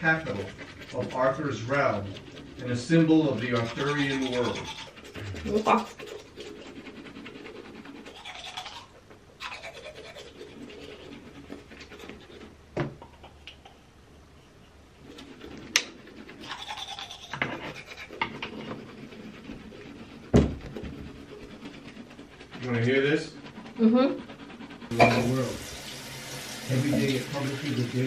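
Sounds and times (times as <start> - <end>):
toothbrush scrubbing teeth: 0.0 - 13.8, 15.0 - 28.0.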